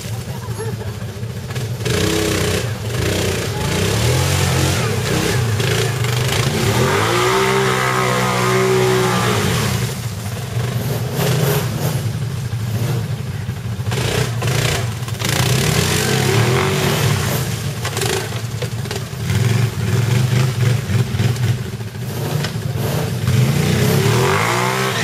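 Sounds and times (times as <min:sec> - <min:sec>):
quad bike engine revving: 0:00.0 - 0:25.0.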